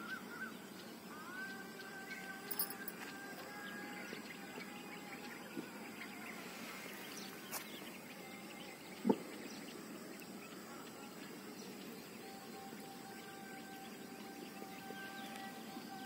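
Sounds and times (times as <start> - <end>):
faint chirps: 0.0 - 16.0
steady background noise: 0.0 - 16.0.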